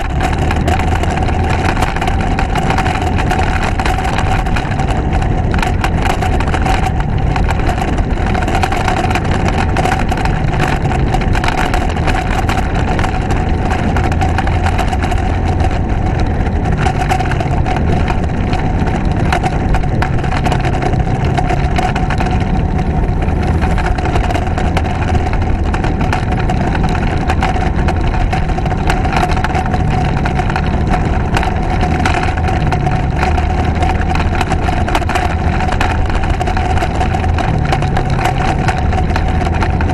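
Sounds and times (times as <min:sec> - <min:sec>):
motorcycle engine drone: 0:00.0 - 0:39.9
wind noise on microphone: 0:00.0 - 0:39.9.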